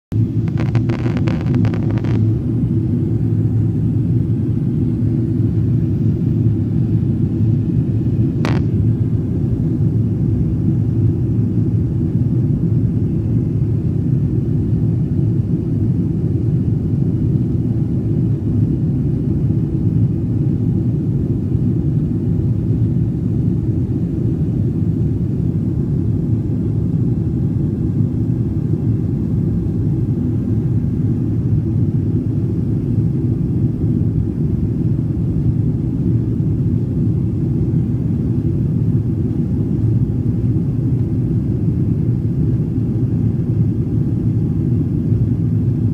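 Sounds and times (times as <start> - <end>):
airliner cabin engine rumble: 0.1 - 45.9.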